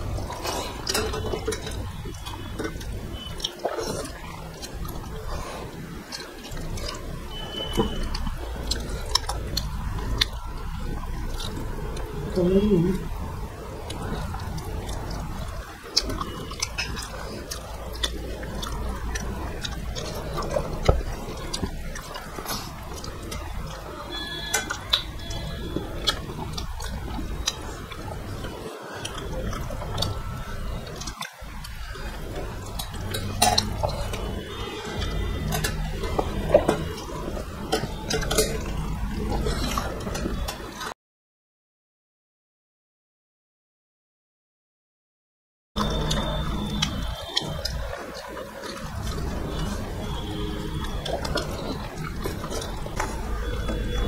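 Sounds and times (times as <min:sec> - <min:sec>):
wet chewing: 0:00.0 - 0:40.9, 0:45.8 - 0:54.0.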